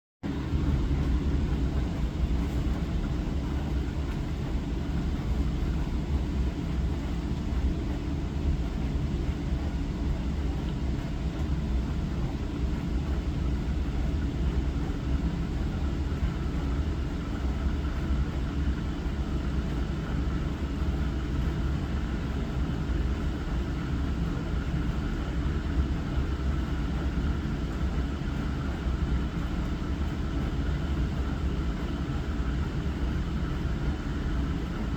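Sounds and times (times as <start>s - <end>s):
dishwasher pump rumble: 0.2s - 34.9s.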